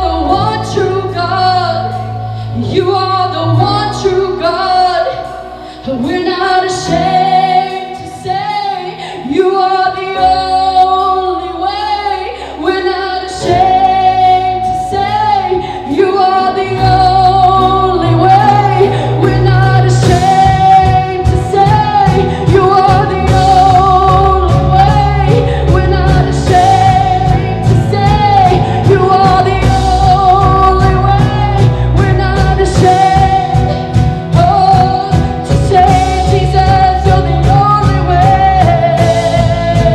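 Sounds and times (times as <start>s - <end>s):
worship band playing: 0.0s - 39.9s
lead vocal singing: 2.6s - 39.9s.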